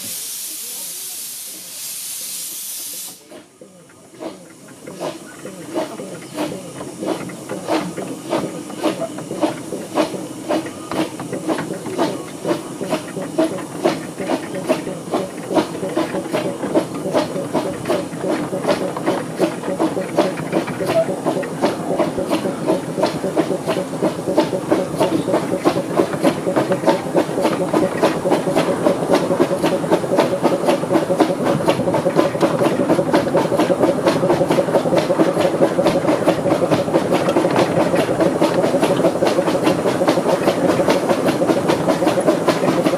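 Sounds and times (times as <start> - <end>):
steam hissing: 0.0 - 42.9
steam locomotive exhaust beats: 0.0 - 42.9.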